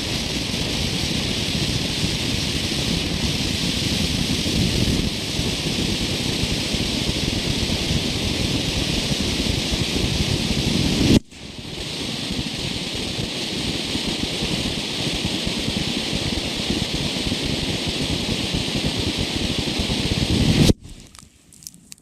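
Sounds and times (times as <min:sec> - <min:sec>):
firework fountains hissing: 0:00.0 - 0:21.0.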